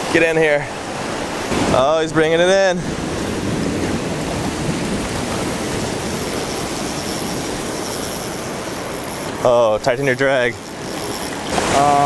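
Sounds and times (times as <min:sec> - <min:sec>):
ocean surf roaring: 0:00.0 - 0:12.0.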